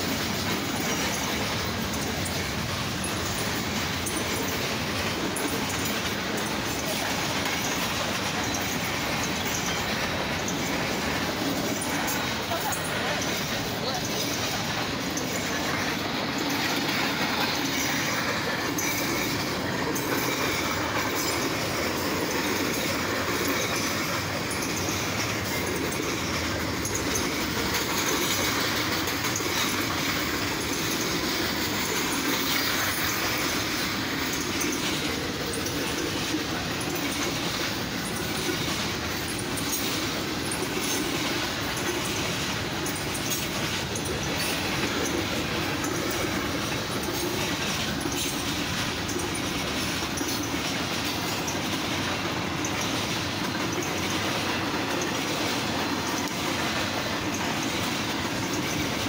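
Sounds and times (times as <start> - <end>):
steel wheels rumbling on rail: 0.0 - 59.0
wheels clicking over rail joints: 0.0 - 59.0.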